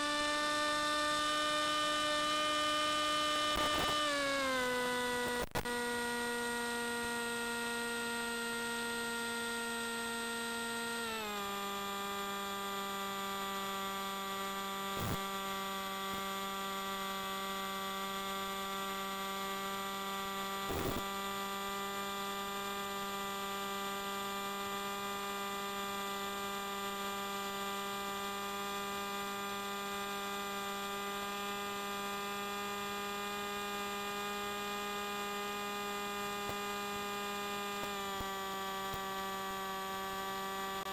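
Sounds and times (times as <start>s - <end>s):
electric motor and propeller hum: 0.0s - 40.9s.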